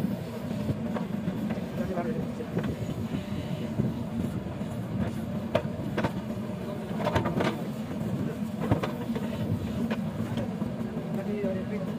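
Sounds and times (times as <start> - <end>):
diesel engine running under load: 0.0 - 11.9.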